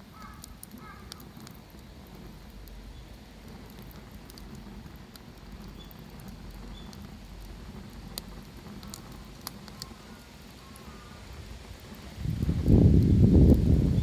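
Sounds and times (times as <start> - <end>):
bonfire crackling and popping: 0.0 - 14.0
low fire rumble: 0.0 - 14.0.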